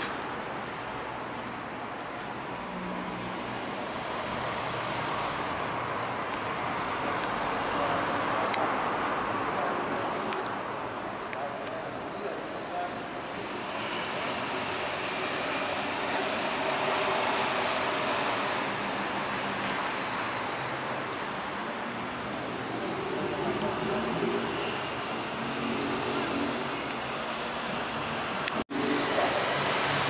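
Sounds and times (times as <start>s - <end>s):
high-pitched whine: 0.0s - 30.0s.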